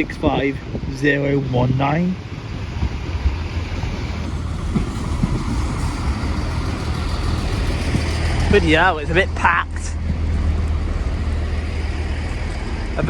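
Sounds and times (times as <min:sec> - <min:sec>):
diesel train engine rumble: 0:00.0 - 0:13.0
moving train noise: 0:00.0 - 0:13.0.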